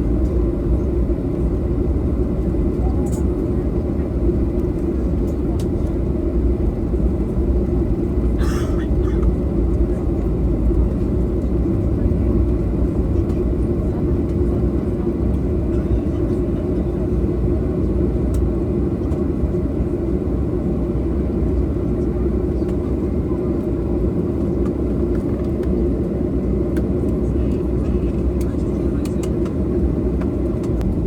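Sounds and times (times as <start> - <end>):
airliner cabin low rumble: 0.0 - 31.0.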